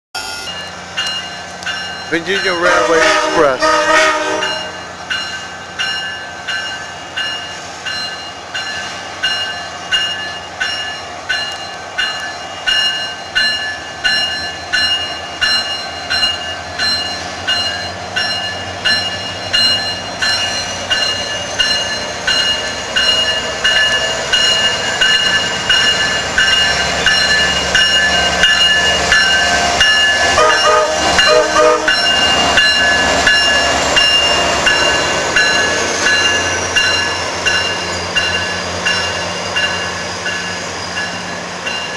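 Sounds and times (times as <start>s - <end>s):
railroad crossing bell ringing: 0.2s - 41.9s
diesel train rumbling past: 0.3s - 41.9s.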